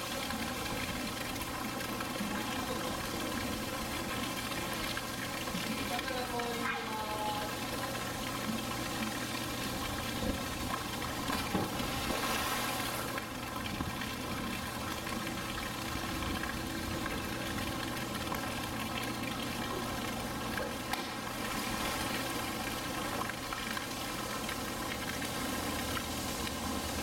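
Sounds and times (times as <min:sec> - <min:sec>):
rush of running water: 0:00.0 - 0:27.0.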